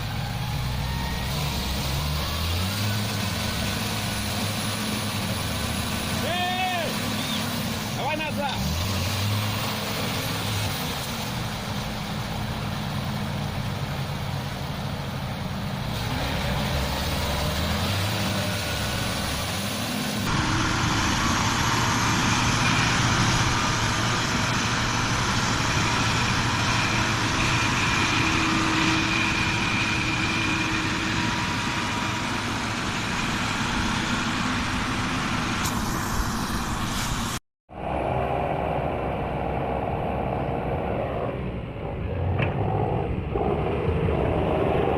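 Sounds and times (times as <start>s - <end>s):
tractor engines running: 0.0s - 44.9s.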